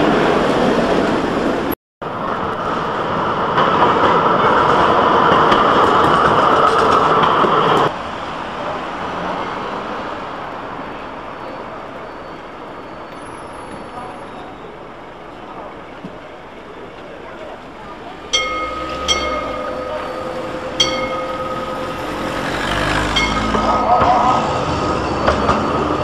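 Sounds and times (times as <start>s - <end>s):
street traffic noise: 0.0s - 26.0s
tram running on track: 0.0s - 26.0s.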